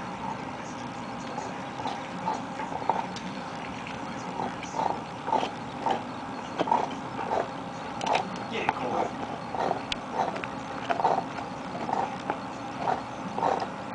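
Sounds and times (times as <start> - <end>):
dog gnawing a bone: 1.4 - 13.7.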